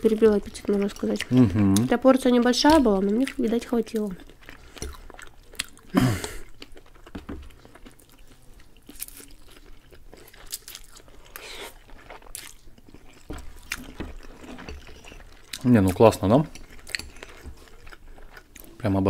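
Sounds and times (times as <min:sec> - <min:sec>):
wet chewing and mouth smacks: 0:00.0 - 0:18.8.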